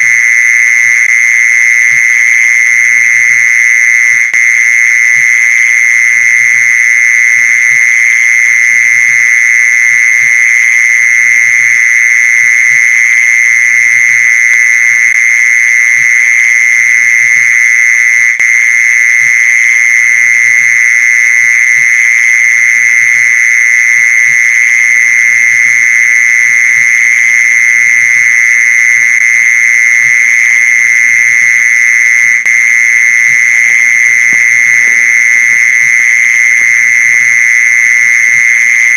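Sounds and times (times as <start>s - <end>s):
cricket trill: 0.0s - 38.9s.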